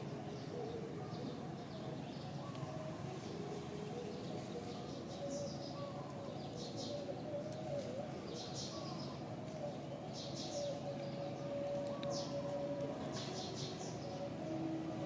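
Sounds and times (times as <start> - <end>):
birds chirping: 0.0 - 15.0
steady wavering hum: 0.0 - 15.0.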